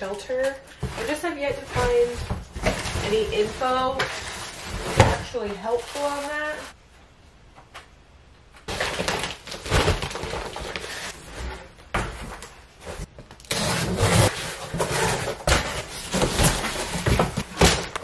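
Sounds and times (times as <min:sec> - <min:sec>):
cardboard scraping and rustling: 0:00.3 - 0:06.7, 0:08.7 - 0:18.0.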